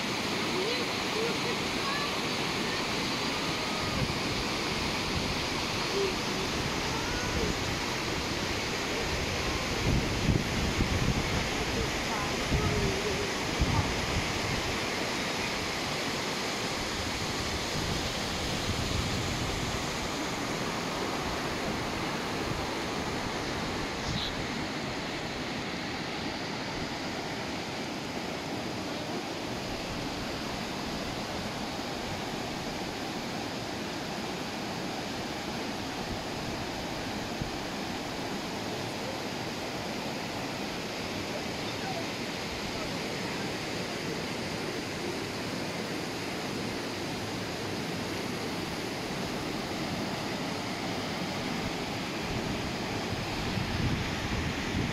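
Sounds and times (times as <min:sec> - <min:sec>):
river rushing over boulders: 0:00.0 - 0:54.9.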